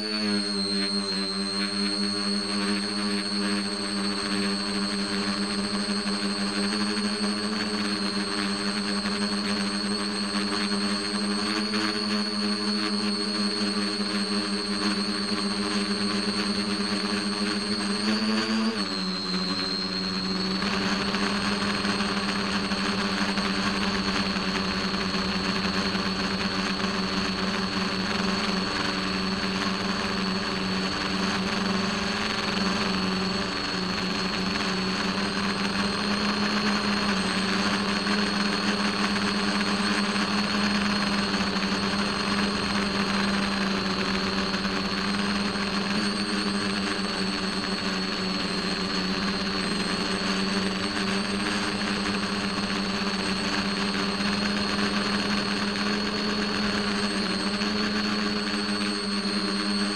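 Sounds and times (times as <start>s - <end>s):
aircraft motor and propeller hum: 0.0s - 59.9s.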